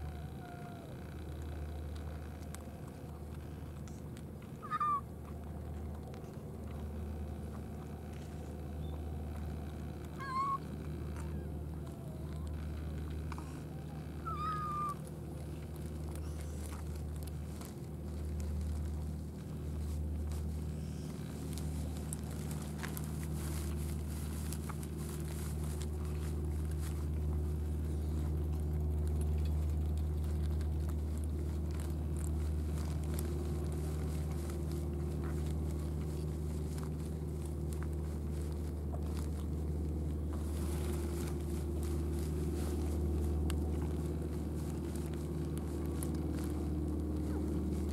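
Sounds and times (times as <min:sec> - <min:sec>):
steady low hum: 0:00.0 - 0:47.9
cats crunching dry food: 0:00.4 - 0:04.6, 0:05.2 - 0:47.9.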